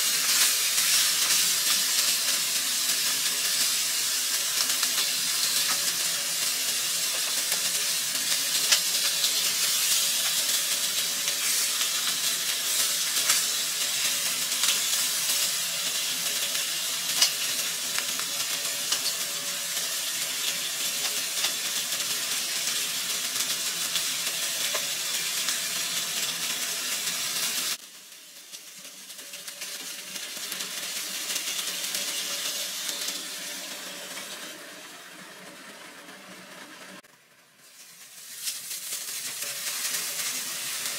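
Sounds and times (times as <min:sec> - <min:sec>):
fish sizzling in oil: 0:00.0 - 0:40.9.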